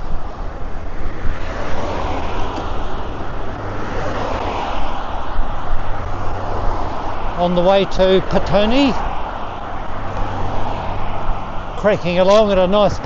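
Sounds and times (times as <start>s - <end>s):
motorway traffic rushing past: 0.0s - 13.0s.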